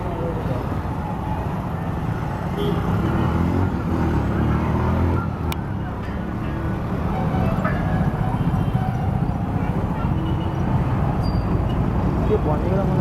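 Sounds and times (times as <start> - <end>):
motorcycle and car engines: 0.0 - 13.0.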